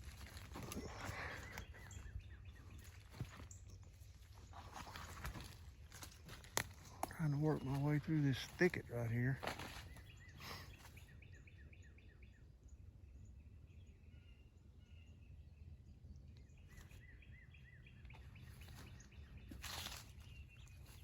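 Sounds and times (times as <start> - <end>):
faint songbird chirps: 0.0 - 21.0.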